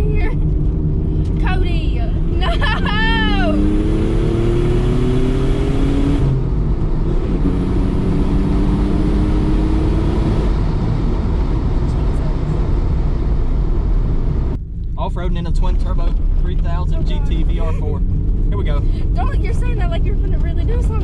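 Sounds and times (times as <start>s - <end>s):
car engine accelerating: 0.0s - 21.0s
road noise: 0.0s - 21.0s.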